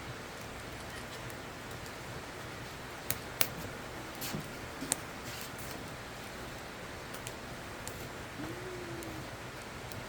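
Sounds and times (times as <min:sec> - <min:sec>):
campfire burning with hiss: 0:00.0 - 0:10.0
faint fire crackles: 0:00.0 - 0:10.0.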